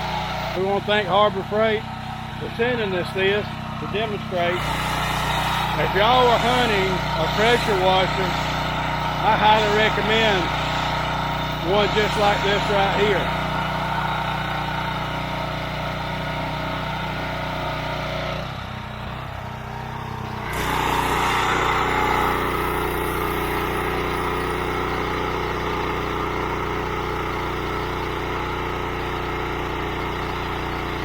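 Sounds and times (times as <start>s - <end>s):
pressure washer engine running: 0.0s - 31.0s.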